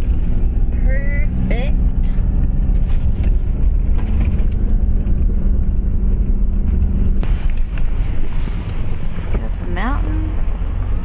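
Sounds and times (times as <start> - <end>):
rough road noise: 0.0 - 11.0
vehicle engine drone: 0.0 - 11.0.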